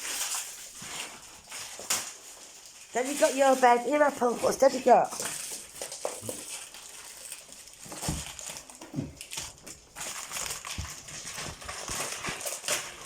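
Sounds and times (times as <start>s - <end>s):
dog rummaging in packaging: 0.0s - 13.0s
wrapping crinkling: 0.0s - 13.0s.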